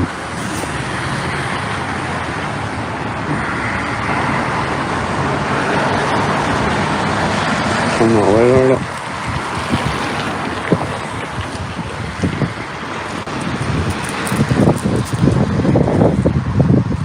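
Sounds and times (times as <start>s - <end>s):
car passing by: 0.0s - 16.1s
road traffic noise: 0.0s - 17.0s.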